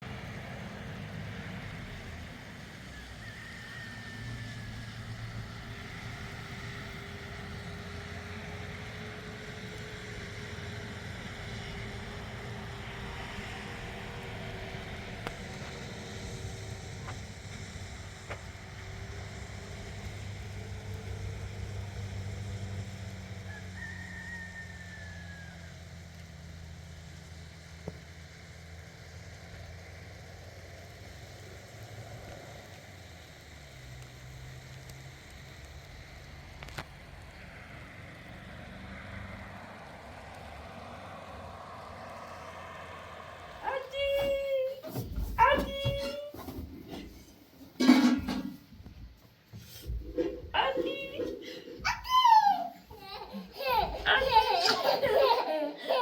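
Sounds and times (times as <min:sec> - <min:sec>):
steady low engine rumble: 0:00.0 - 0:56.0.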